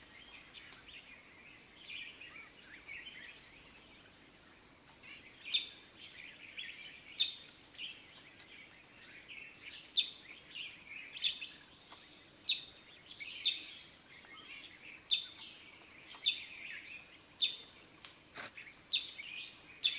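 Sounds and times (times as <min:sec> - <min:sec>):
birds twittering: 0:00.0 - 0:19.9.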